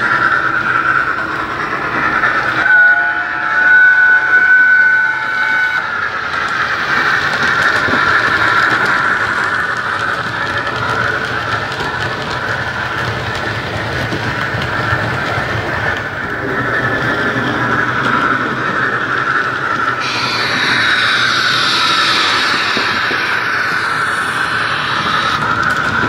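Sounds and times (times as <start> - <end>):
model steam locomotive sound effects: 0.0 - 26.0
model train running on track: 0.0 - 26.0.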